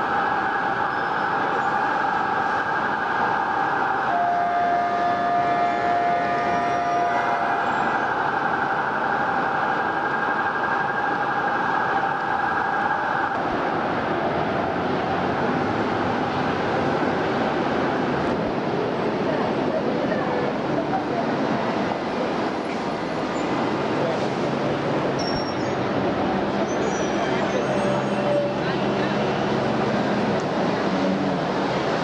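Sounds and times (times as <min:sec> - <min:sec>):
city street traffic: 0:00.0 - 0:32.0.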